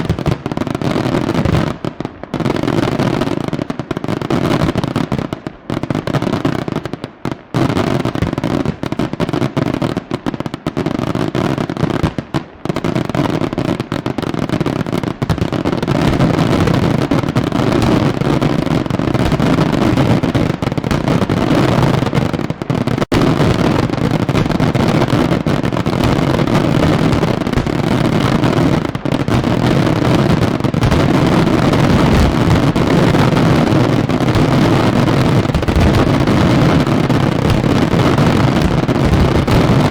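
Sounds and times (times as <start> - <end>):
fireworks exploding: 0.0 - 39.9.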